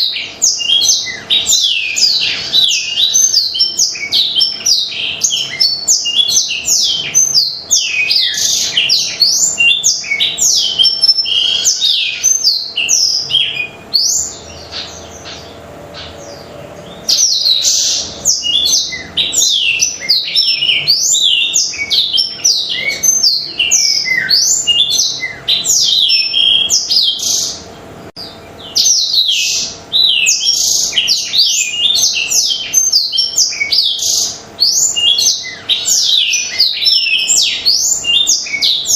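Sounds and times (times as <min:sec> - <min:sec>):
canary singing chirps and trills: 0:00.0 - 0:38.9.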